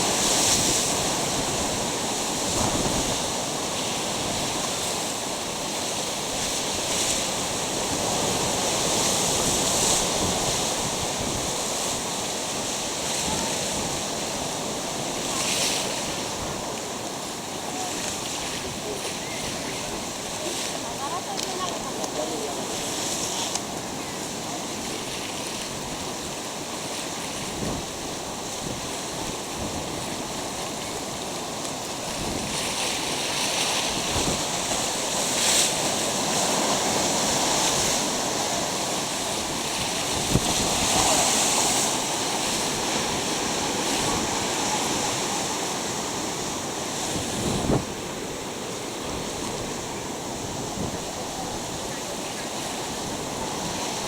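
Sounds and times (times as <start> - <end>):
ocean surf breaking on shore: 0.0 - 54.0
wind buffeting microphone: 0.0 - 54.0.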